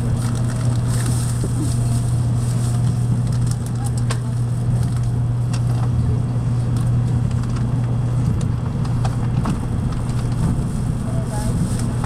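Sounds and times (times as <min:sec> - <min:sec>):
train cabin hum and rush: 0:00.0 - 0:12.0.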